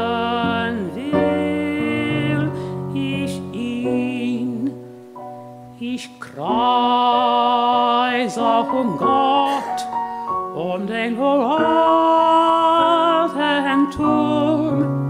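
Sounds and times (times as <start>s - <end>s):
man singing with vibrato: 0.0s - 4.9s, 5.7s - 15.0s
grand piano chords: 0.0s - 15.0s.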